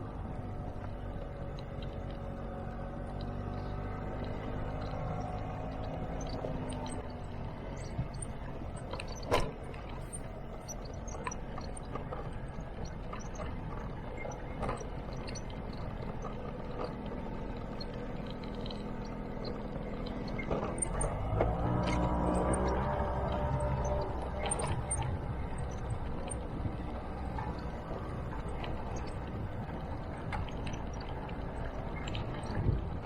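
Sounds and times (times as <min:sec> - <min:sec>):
scooter engine running: 0:00.0 - 0:33.0.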